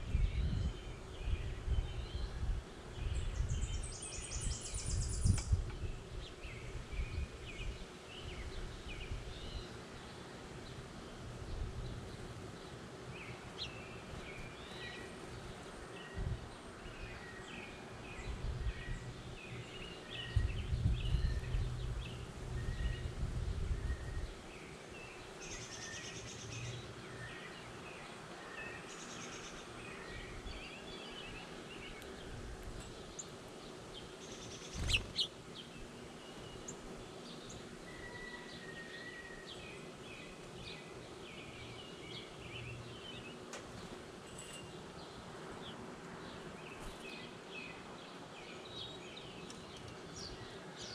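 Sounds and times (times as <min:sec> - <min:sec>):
birds chirping and singing: 0:00.0 - 0:50.9.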